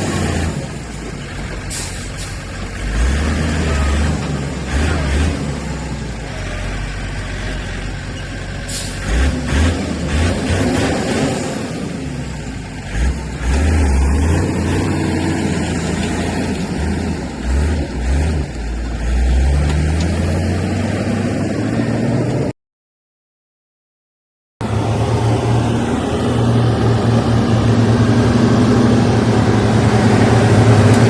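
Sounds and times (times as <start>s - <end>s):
heavy diesel engine rumbling: 0.0s - 22.5s, 24.6s - 31.0s.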